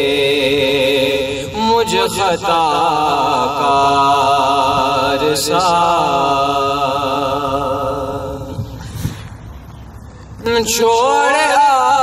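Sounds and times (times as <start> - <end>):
man singing unaccompanied: 0.0 - 8.4, 10.4 - 12.0.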